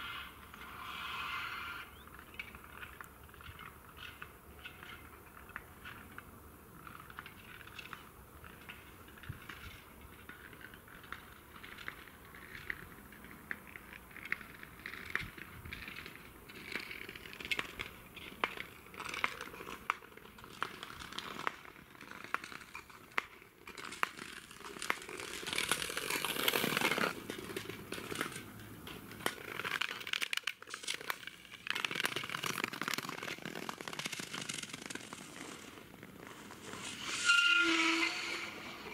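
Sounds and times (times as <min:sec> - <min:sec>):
ice crackling and ticking: 0:00.0 - 0:37.3
skate blades scraping ice: 0:00.0 - 0:38.9.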